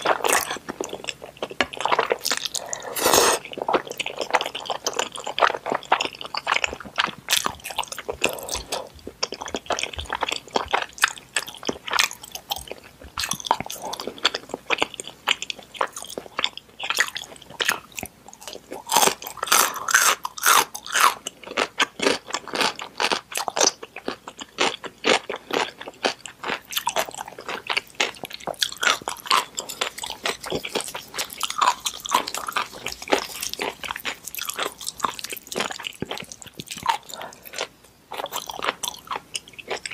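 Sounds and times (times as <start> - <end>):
chewing noodles: 0.0 - 39.9.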